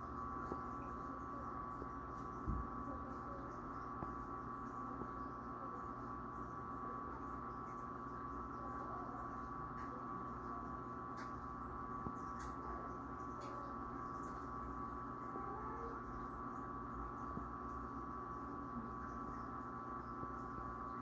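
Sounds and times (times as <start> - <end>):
aquarium pumps humming: 0.0 - 21.0.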